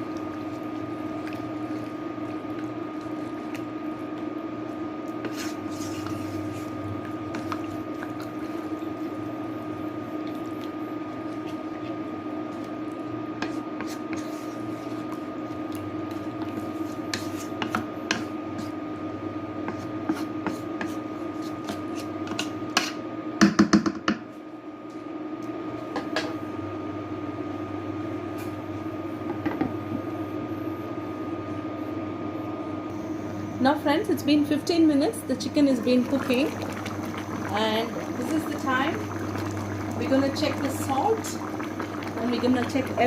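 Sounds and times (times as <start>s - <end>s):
machine hum: 0.0s - 19.7s, 24.5s - 43.0s.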